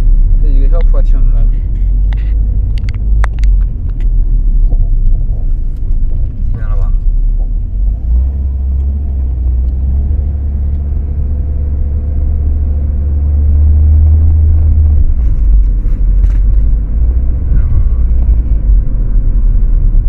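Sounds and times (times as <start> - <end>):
car road rumble inside cabin: 0.0 - 20.0.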